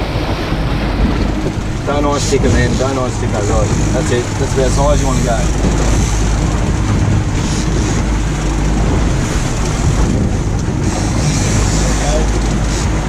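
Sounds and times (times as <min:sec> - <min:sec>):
boat engine running: 0:00.0 - 0:13.0
water washing along hull: 0:00.0 - 0:13.0
wind buffeting microphone: 0:00.0 - 0:13.0.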